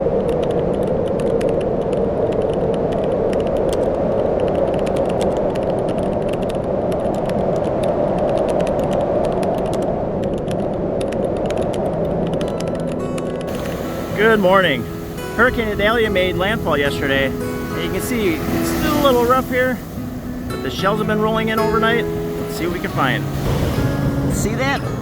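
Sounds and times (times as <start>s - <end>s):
surf washing onto beach: 0.0s - 25.0s.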